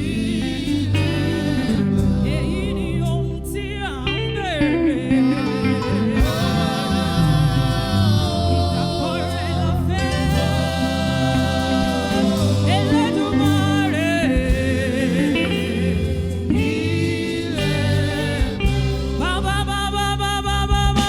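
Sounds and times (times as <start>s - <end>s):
gospel band with steady bass: 0.0s - 21.0s
person singing lead: 0.0s - 21.0s.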